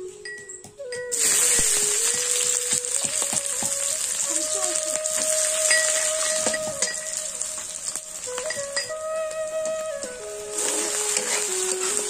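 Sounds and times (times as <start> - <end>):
onions sizzling in hot oil: 1.1 - 12.0.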